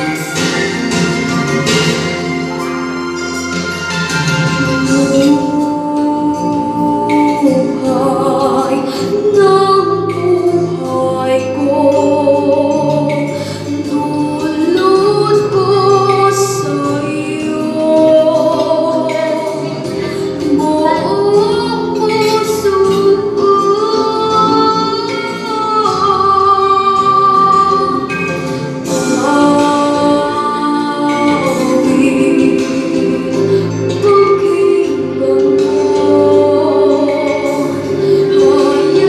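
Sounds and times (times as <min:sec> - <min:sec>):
instrumental backing track: 0:00.0 - 0:39.0
girl singing into microphone: 0:04.6 - 0:39.0.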